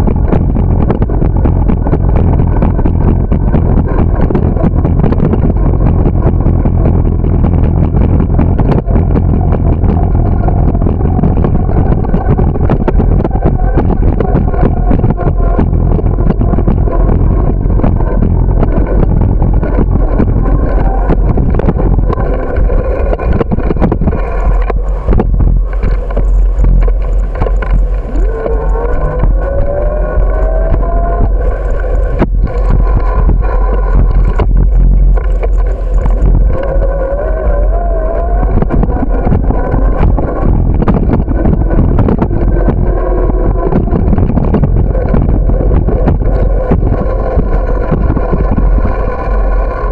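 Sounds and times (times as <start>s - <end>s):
bicycle rolling over pavement: 0.0s - 49.9s
wind buffeting microphone: 0.0s - 49.9s.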